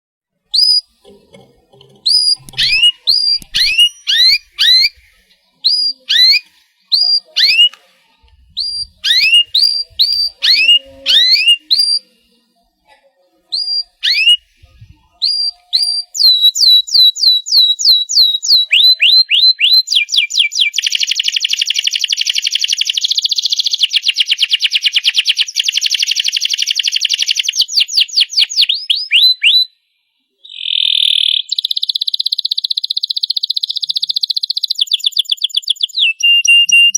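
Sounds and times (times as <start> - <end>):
canary singing: 0.5 - 12.4, 13.3 - 29.7, 30.4 - 36.9.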